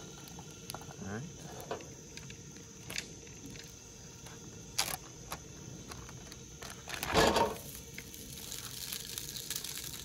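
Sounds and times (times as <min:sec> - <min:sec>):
faint high insect drone: 0:00.0 - 0:10.0.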